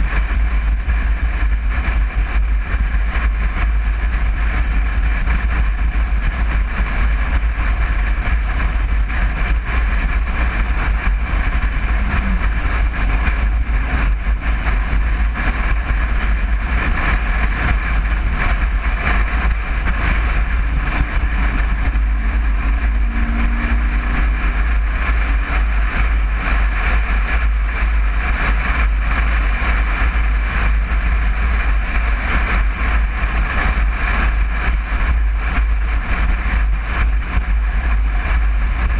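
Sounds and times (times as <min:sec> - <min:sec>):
road and wind noise: 0:00.0 - 0:38.9
van engine running: 0:00.0 - 0:38.9.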